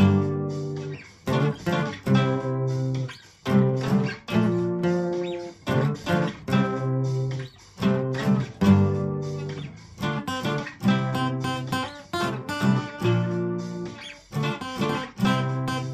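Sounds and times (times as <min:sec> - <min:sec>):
guitar strumming chords: 0:00.0 - 0:15.9.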